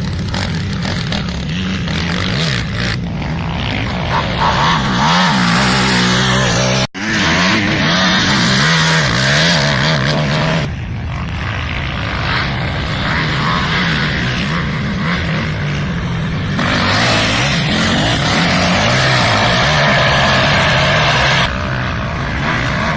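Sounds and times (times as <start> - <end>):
quad engine revving: 0.0 - 22.9.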